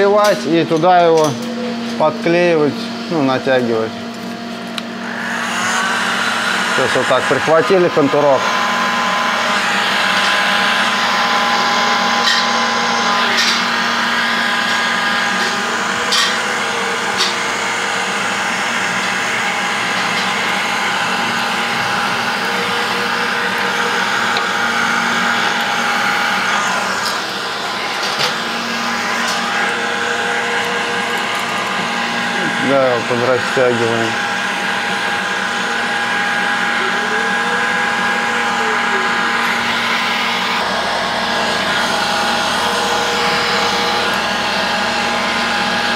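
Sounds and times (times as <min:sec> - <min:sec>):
heat gun fan blowing: 0:00.0 - 0:45.9.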